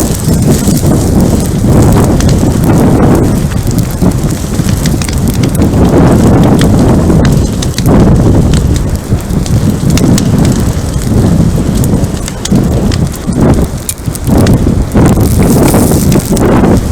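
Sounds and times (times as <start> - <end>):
fire crackling and popping: 0.0 - 16.9
wildfire roaring: 0.0 - 16.9.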